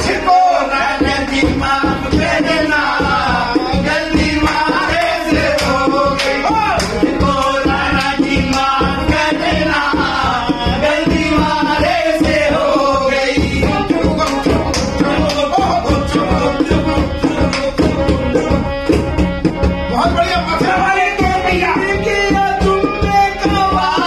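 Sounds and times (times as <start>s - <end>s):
drum beating steady rhythm: 0.0s - 24.0s
harmonium: 0.0s - 24.0s
men singing together: 0.0s - 24.0s.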